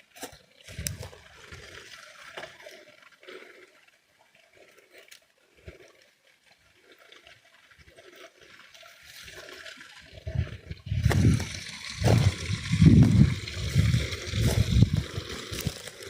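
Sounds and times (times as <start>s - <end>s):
gurgling water: 0.0s - 16.0s.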